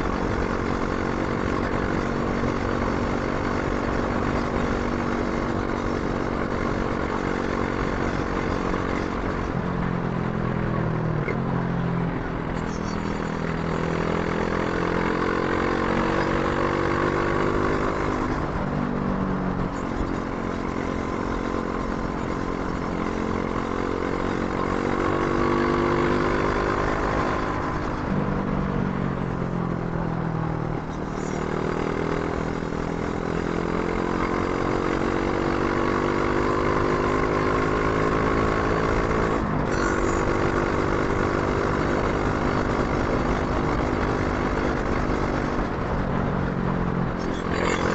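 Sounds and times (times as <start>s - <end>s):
motorcycle engine shifting gears: 0.0s - 47.9s.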